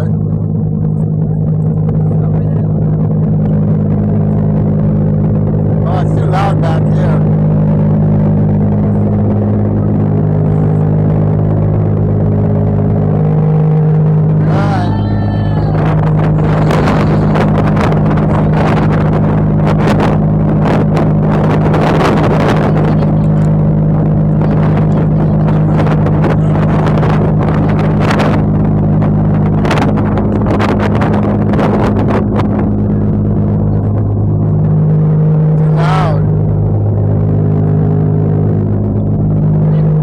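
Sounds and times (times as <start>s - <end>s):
ferry engines droning: 0.0s - 40.0s.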